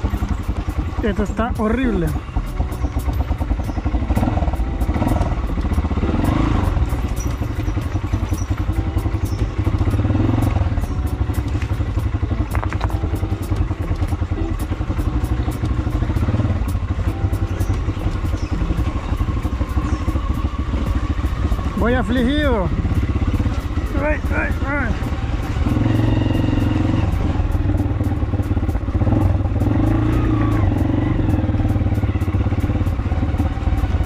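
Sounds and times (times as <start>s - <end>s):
small motorcycle engine running: 0.0s - 34.0s.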